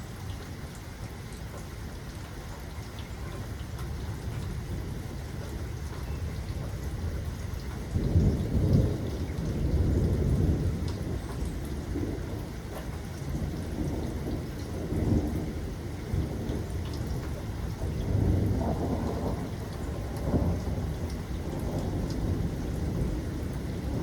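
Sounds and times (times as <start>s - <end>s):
steady rain: 0.0s - 24.0s
rolling thunder: 4.3s - 24.0s.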